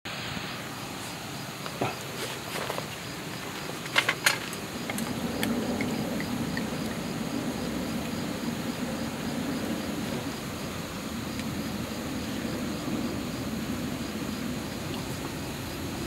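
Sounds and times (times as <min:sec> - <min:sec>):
crickets chirping: 0:00.1 - 0:16.0.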